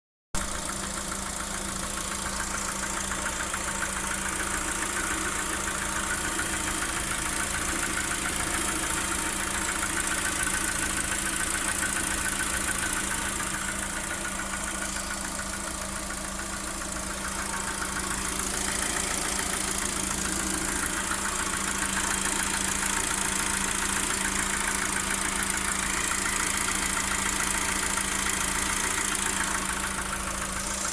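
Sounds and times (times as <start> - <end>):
car engine idling with knock: 0.4 - 30.9.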